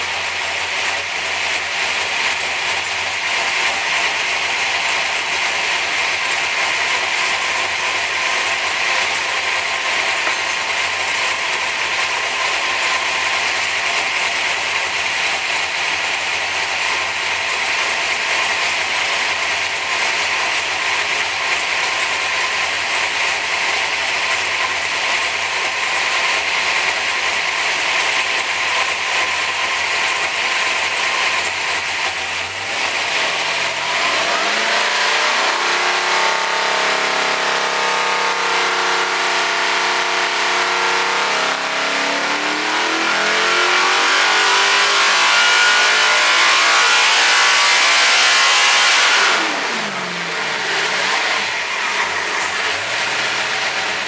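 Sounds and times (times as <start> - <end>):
race engine running steadily: 0.0 - 54.0.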